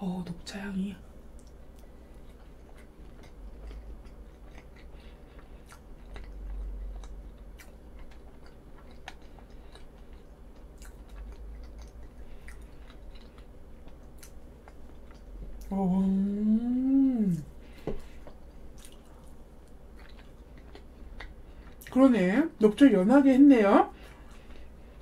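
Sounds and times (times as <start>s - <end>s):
person chewing: 1.3s - 21.9s.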